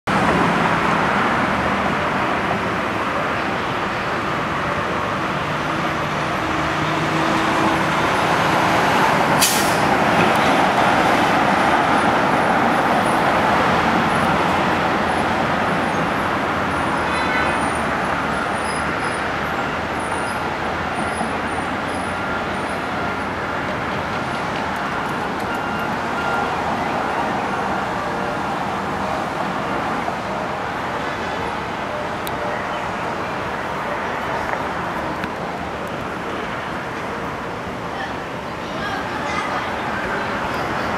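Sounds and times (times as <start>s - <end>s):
road traffic passing: 0.1s - 40.9s.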